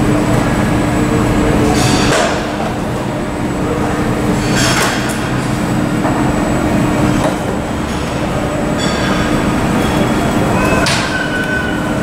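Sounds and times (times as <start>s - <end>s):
high engine whine: 0.0s - 12.0s.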